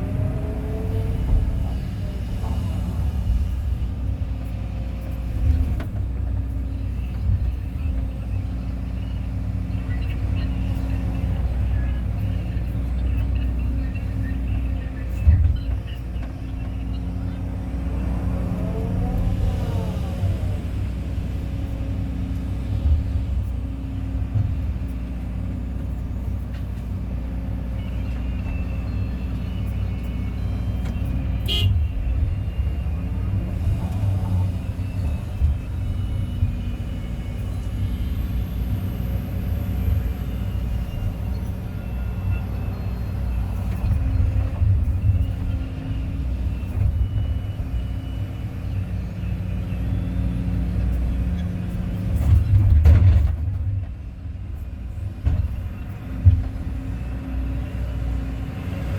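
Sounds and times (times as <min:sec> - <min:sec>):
excavator diesel engine rumbling: 0:00.0 - 0:58.9.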